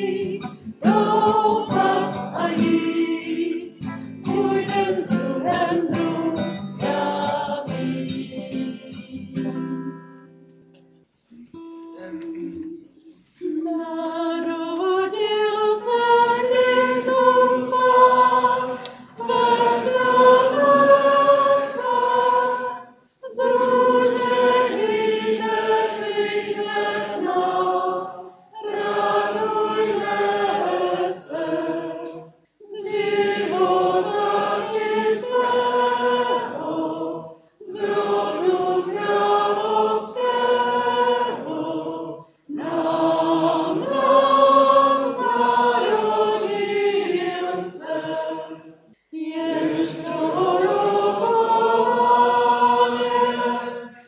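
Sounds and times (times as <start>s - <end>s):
choir singing a hymn: 0.0s - 9.8s, 12.0s - 54.0s.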